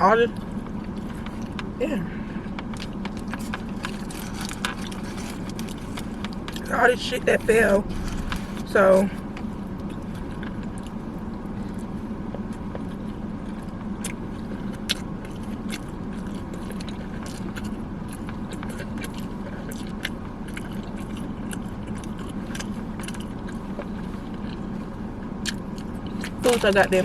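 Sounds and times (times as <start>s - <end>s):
low car hum: 0.0s - 27.0s
biting and chewing: 0.3s - 27.0s.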